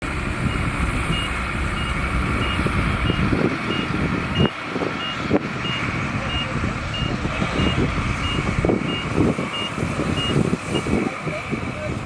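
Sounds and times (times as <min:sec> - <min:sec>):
diesel engine rumbling: 0:00.0 - 0:12.0
reversing alarm beeping: 0:00.4 - 0:11.0.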